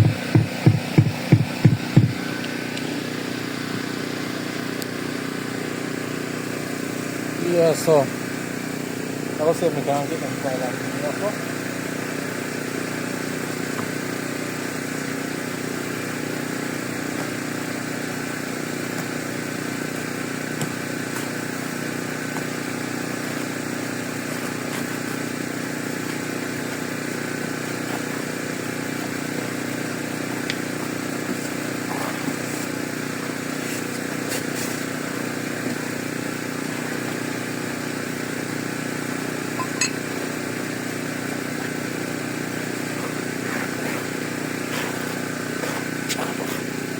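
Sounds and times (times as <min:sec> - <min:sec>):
motor humming: 0:00.0 - 0:46.9.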